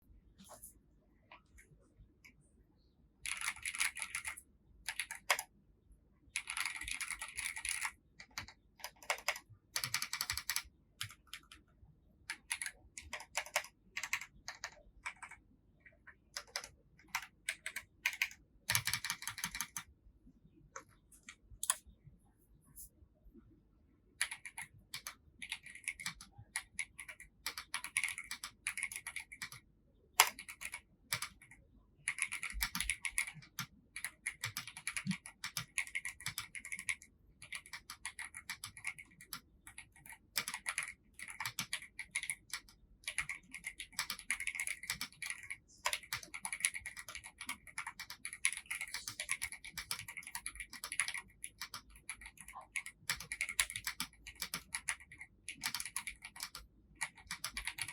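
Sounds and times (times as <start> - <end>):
clicky keyboard typing: 3.2 - 5.5, 6.3 - 11.6, 12.2 - 19.9, 20.7 - 21.9, 24.2 - 57.9.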